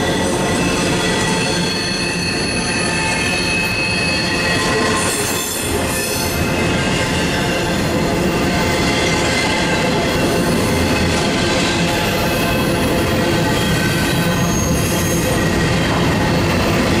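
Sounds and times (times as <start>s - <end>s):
freight train wheels rumbling on rails: 0.0s - 17.0s
high-pitched ringing from wheels: 0.0s - 17.0s.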